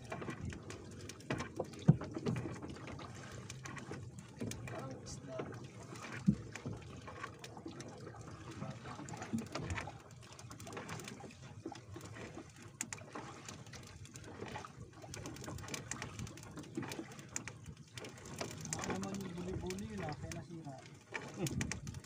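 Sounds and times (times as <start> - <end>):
water splashing and dripping: 0.0 - 22.0.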